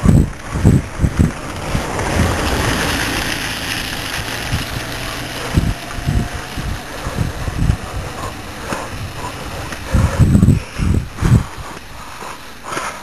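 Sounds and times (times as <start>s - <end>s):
wind buffeting microphone: 0.0s - 13.0s
wind rushing: 0.0s - 13.0s.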